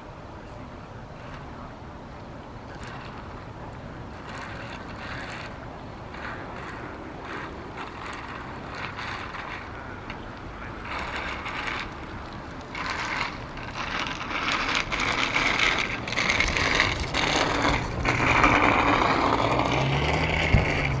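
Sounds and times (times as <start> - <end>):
surf washing on rocky shore: 1.0 - 21.0.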